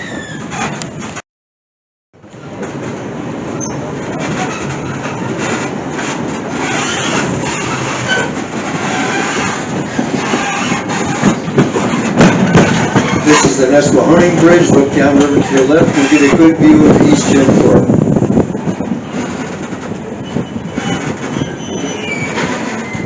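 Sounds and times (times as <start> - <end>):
train wheels rumbling on rails: 0.0 - 1.2, 2.2 - 23.0.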